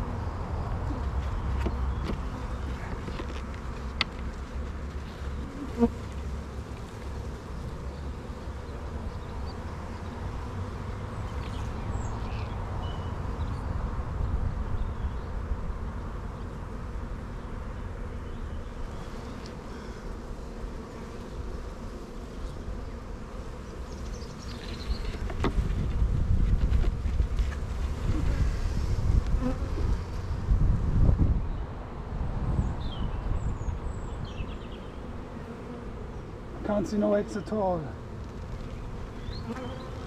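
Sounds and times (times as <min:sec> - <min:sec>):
honeybees buzzing: 0:00.0 - 0:30.9, 0:32.5 - 0:40.0.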